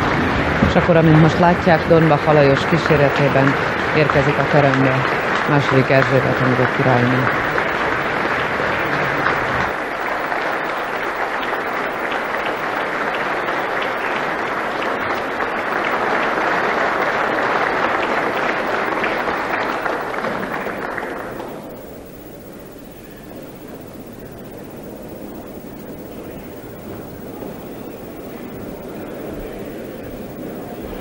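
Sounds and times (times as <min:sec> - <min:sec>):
crowd applauding: 0:00.0 - 0:31.0.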